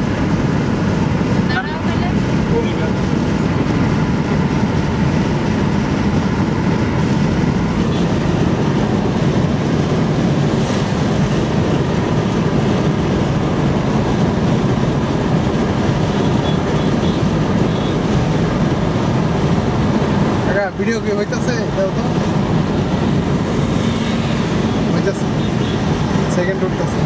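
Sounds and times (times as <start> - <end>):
road and wind noise in car: 0.0 - 27.0.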